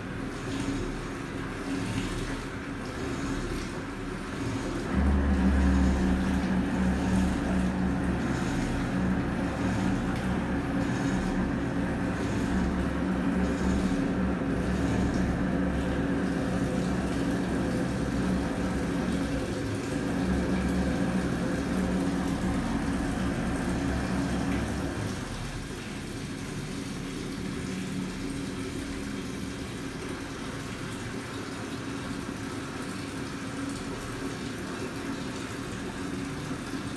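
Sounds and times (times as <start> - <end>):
washing machine motor hum: 0.0 - 36.9
water churning in tub: 0.0 - 36.9.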